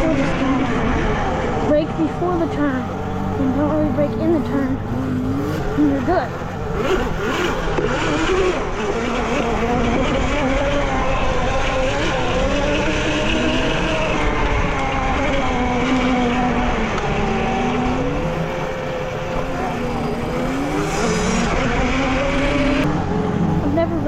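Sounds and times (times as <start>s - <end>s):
dirt bike engines revving: 0.0s - 24.0s
steady rushing noise: 0.0s - 24.0s.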